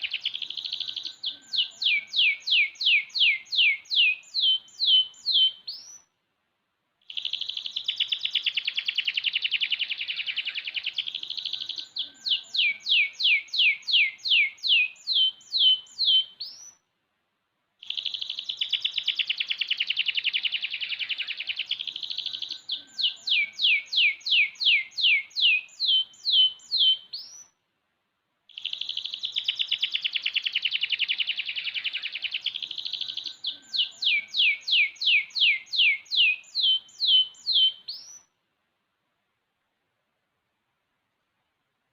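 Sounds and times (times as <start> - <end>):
canary singing trills: 0.0 - 6.1, 7.0 - 16.8, 17.8 - 27.6, 28.5 - 38.3.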